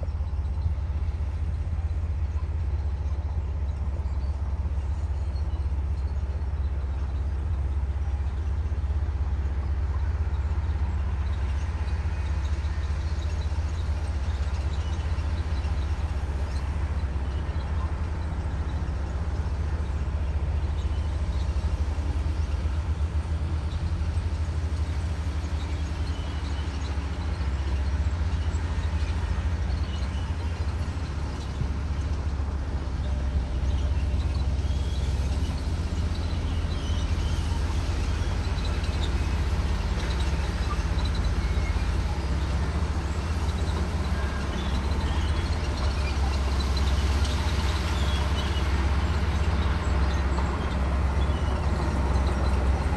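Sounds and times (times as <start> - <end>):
diesel engine rumbling: 0.0 - 52.9.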